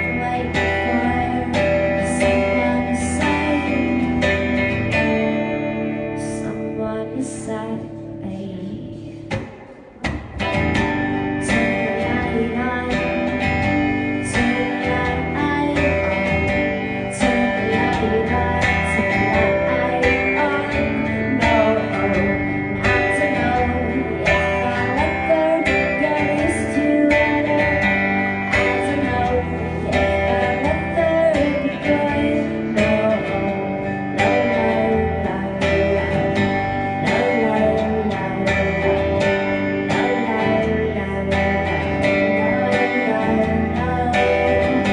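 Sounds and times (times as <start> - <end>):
live country band playing: 0.0 - 44.9
strummed acoustic guitar: 0.0 - 44.9.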